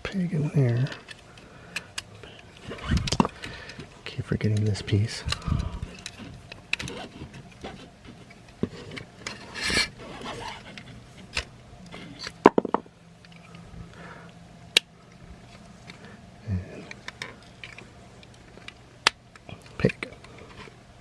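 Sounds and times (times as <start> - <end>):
plastic parts rubbing and scraping: 0.6 - 13.6, 16.7 - 20.8.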